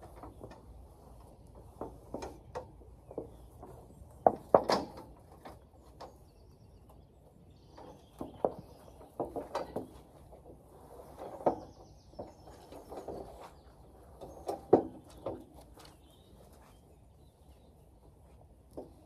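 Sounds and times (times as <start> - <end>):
scraping and rustling over grass: 0.0 - 19.0.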